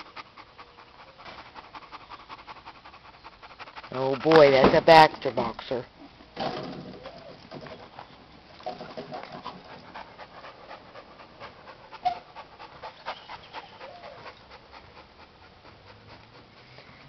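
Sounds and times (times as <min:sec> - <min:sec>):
dog panting hard: 0:00.0 - 0:05.8, 0:08.8 - 0:17.0.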